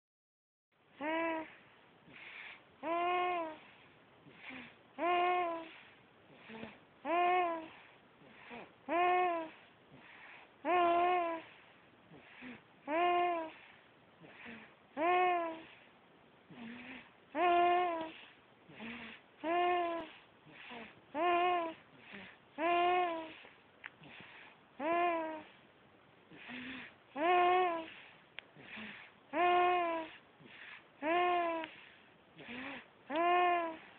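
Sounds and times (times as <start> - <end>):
baby snoring: 1.0 - 15.9, 16.5 - 25.6, 26.3 - 33.9
soft breathing: 1.0 - 33.9.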